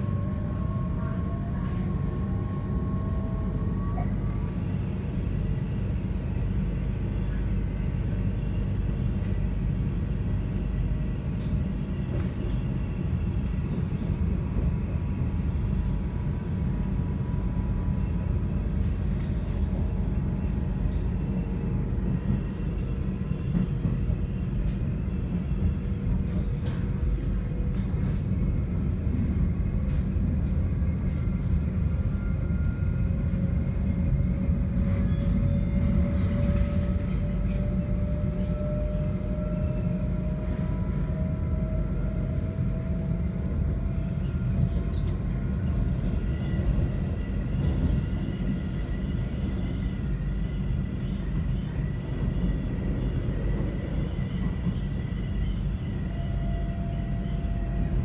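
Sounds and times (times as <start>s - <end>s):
wheels rumbling on track: 0.0s - 58.0s.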